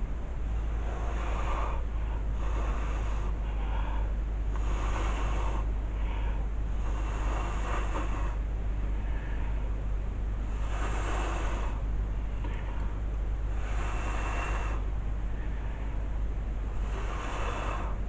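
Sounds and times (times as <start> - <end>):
air hitting microphone rumble: 0.0 - 18.0
breath puffs: 0.5 - 18.0.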